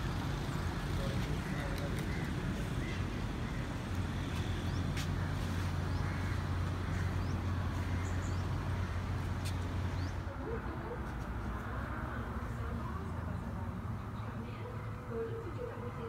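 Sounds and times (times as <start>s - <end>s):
city traffic noise: 0.0s - 16.0s.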